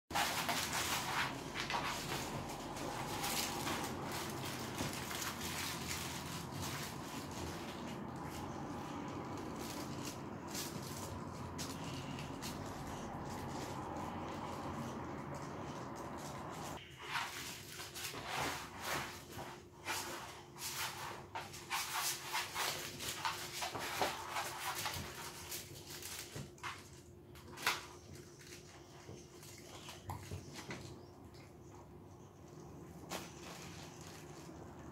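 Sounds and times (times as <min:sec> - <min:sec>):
crackling and rustling of toy: 0:00.1 - 0:34.9.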